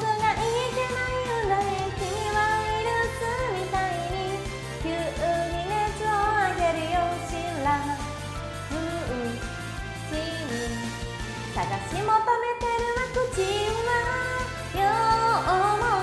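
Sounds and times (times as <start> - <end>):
karaoke pop backing track: 0.0 - 16.0
woman singing: 0.0 - 16.0.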